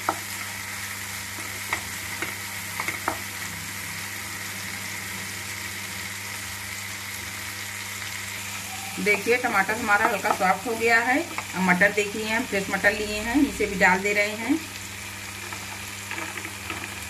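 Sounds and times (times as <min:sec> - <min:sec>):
vegetables sizzling in oil: 0:00.0 - 0:17.0
steady low hum: 0:00.6 - 0:15.4.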